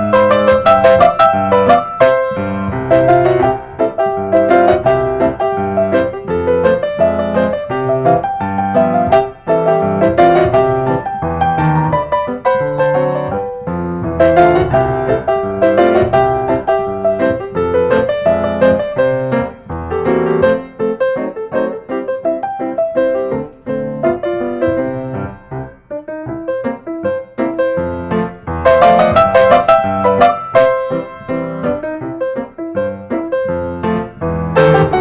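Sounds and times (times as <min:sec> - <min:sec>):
lively piano music: 0:00.0 - 0:35.0.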